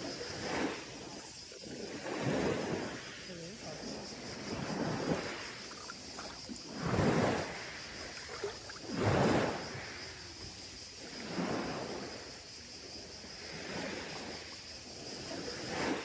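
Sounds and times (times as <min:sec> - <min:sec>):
sea waves washing on beach: 0:00.0 - 0:16.0.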